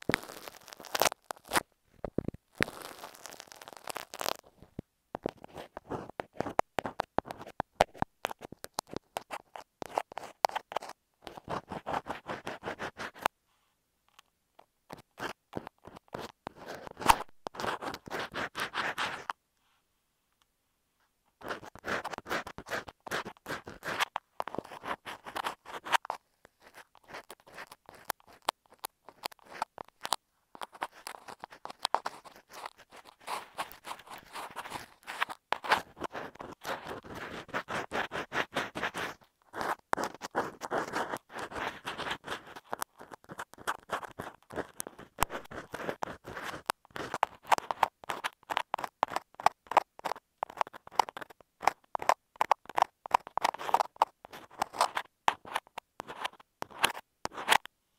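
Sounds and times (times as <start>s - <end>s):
ear pick scratching microphone: 0.0s - 13.3s, 14.9s - 19.4s, 21.3s - 57.7s.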